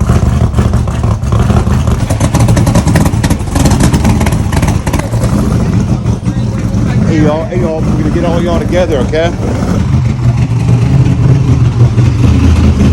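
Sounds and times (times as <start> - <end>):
vehicle engine running loudly: 0.0 - 12.9.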